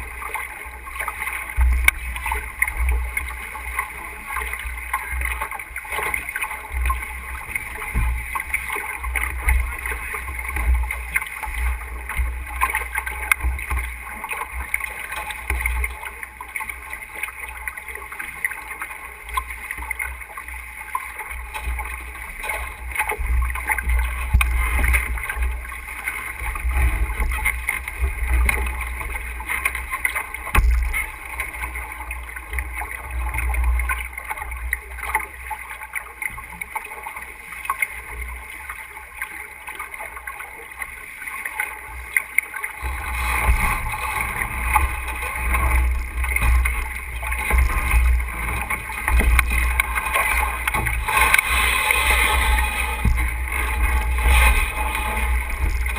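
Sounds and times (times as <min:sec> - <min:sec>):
water rushing along hull: 0:00.0 - 0:55.9.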